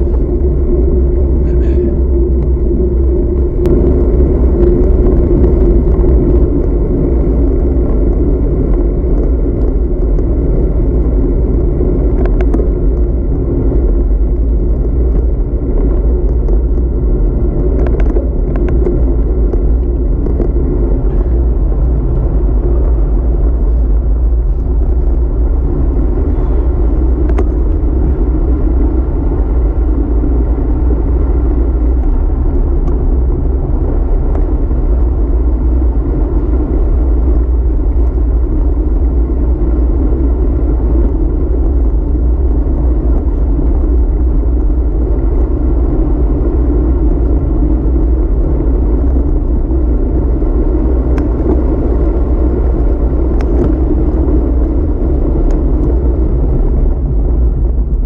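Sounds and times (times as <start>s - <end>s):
bicycle tyres on asphalt: 0.0s - 58.0s
wind buffeting microphone: 0.0s - 58.0s.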